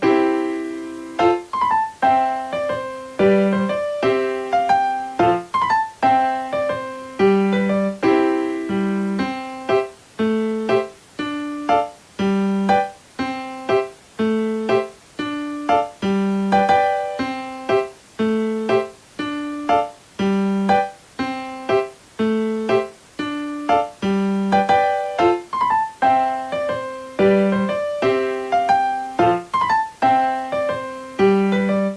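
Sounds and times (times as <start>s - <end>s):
electric piano tune: 0.0s - 31.9s.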